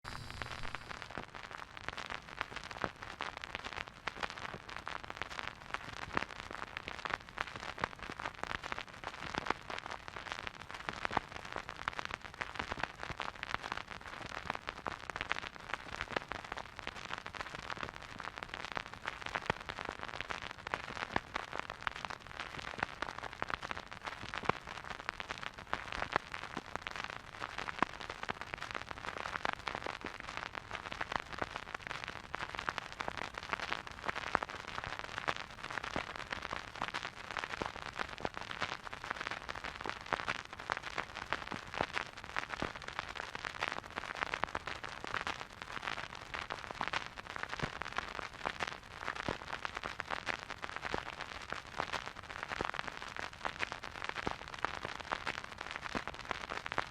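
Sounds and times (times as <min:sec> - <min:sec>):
vinyl record crackle: 0:00.0 - 0:56.9.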